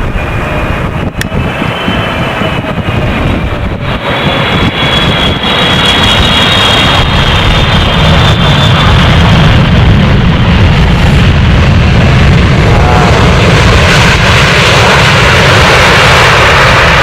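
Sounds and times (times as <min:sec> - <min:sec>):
high engine whine: 0:00.0 - 0:17.0
jet engines rumbling: 0:00.0 - 0:17.0.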